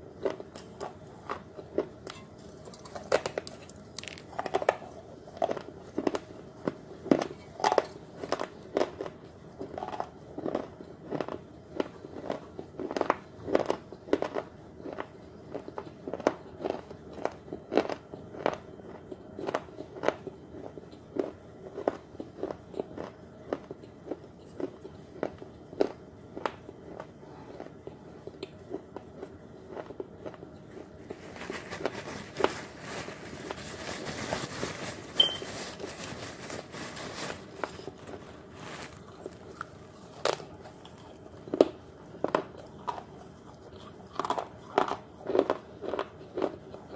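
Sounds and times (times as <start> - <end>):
crunching clay while chewing: 0.1 - 46.9.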